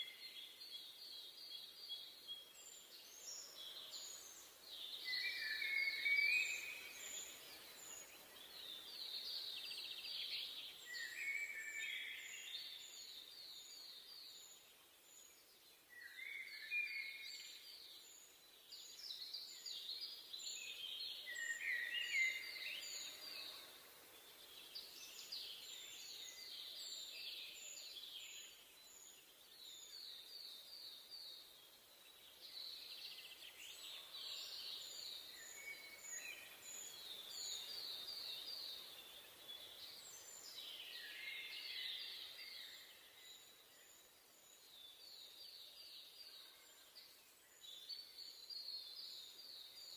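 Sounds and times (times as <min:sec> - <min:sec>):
faint even hiss: 0:00.0 - 0:49.9.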